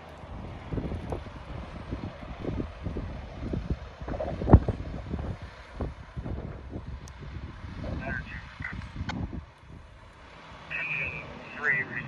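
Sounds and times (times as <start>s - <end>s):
low outdoor rumble: 0.0s - 12.0s
wind buffeting microphone: 0.0s - 12.0s.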